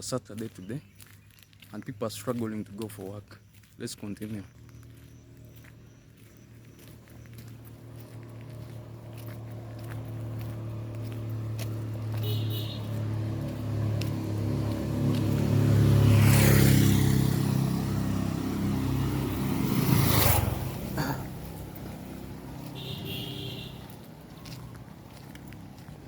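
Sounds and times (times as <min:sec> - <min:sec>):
traffic noise: 0:00.0 - 0:26.0
tyre and road noise: 0:00.0 - 0:26.0
vehicle passing by: 0:04.2 - 0:26.0.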